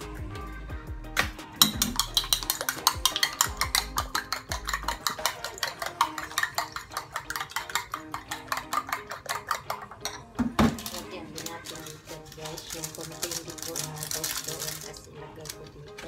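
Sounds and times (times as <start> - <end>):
fork beating eggs in a bowl: 1.6 - 16.0.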